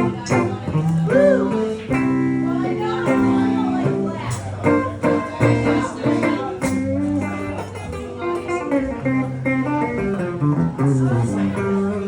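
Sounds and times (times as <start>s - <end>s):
bass: 0.0s - 12.0s
guitar lines: 0.0s - 12.0s.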